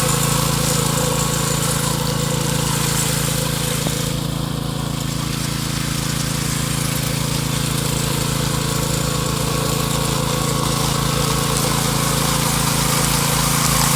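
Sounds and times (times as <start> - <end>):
power trowel engine running: 0.0 - 13.9.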